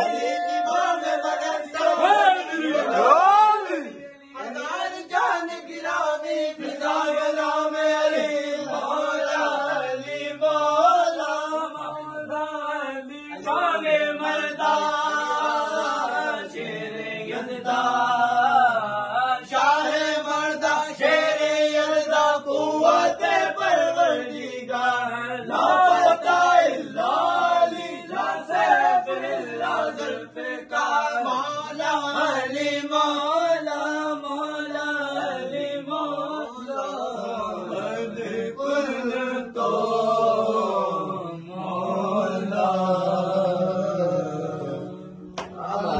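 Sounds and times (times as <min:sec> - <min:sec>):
men chanting devotional song: 0:00.0 - 0:45.9.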